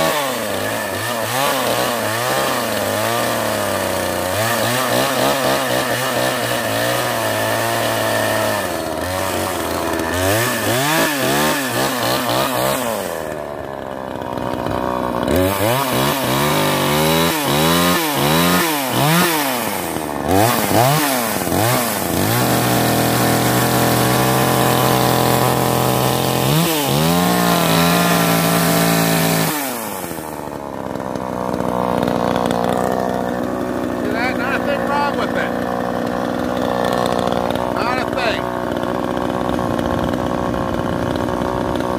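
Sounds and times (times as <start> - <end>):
chainsaw revving: 0.0 - 41.9.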